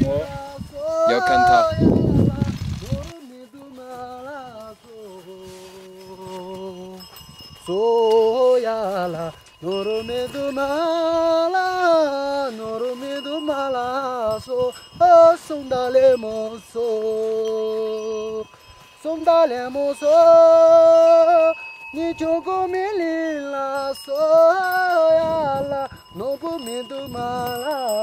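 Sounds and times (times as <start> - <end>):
person singing slow melody: 0.0 - 28.0.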